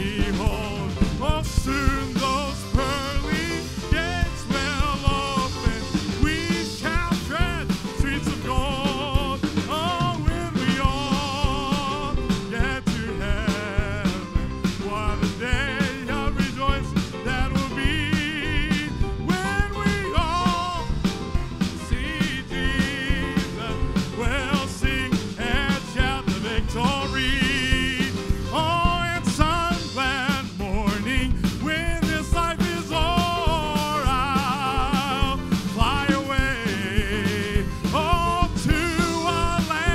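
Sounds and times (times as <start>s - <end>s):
band playing: 0.0s - 39.9s
drums steady beat: 0.0s - 39.9s
person singing with vibrato: 0.0s - 39.9s.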